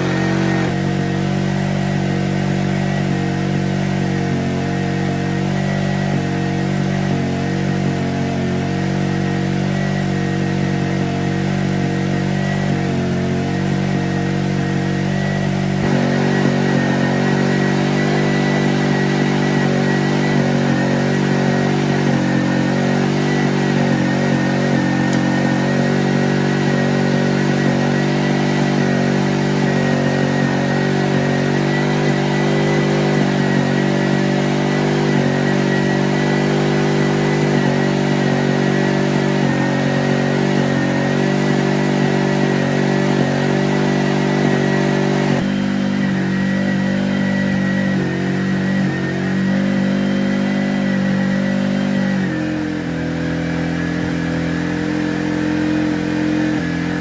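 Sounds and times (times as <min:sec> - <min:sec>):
generator engine running: 0:00.0 - 0:57.0.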